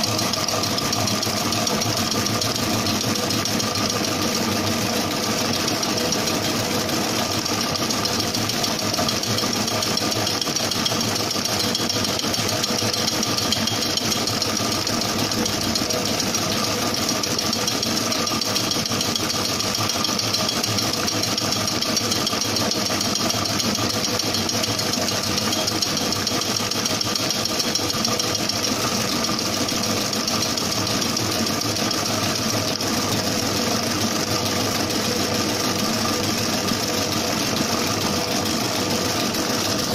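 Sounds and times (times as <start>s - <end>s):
mixer motor hum and whine: 0.0s - 39.9s.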